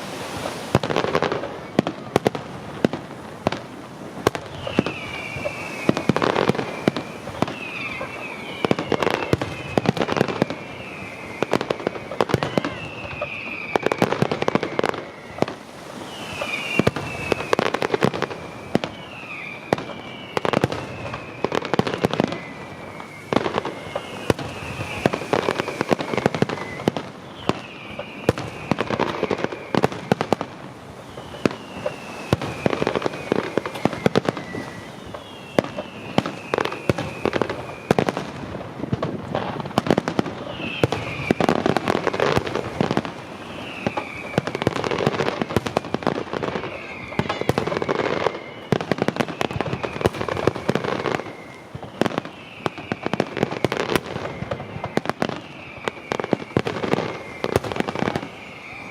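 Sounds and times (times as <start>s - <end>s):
fireworks bangs and crackling: 0.0s - 58.9s
shrill firework whistles: 0.0s - 58.9s.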